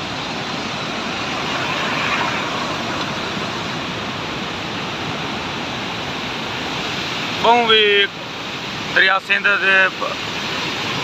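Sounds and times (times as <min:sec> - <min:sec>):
turbulent river water roaring: 0:00.0 - 0:11.0.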